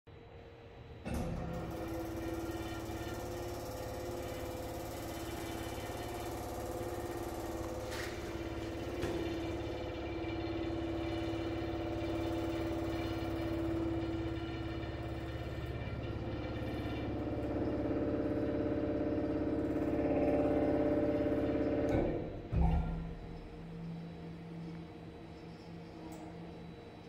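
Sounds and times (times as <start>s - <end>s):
freeze dryer humming: 1.0s - 27.0s.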